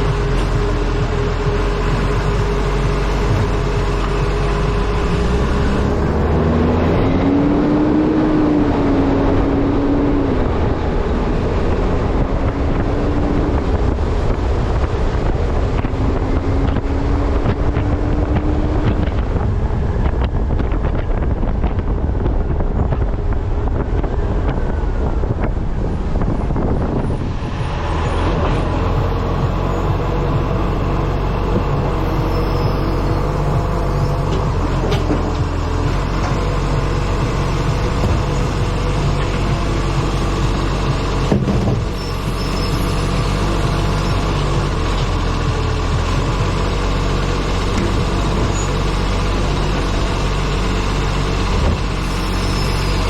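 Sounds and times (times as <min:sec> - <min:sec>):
wind buffeting microphone: 0:00.0 - 0:52.1
steady engine tone: 0:00.0 - 0:53.0
truck engine drone: 0:00.0 - 0:53.0.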